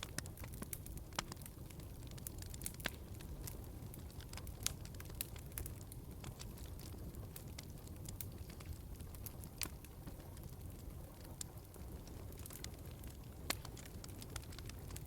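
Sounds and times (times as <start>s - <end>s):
log fire crackling: 0.0s - 15.0s
low steady fire rumble: 0.0s - 15.0s.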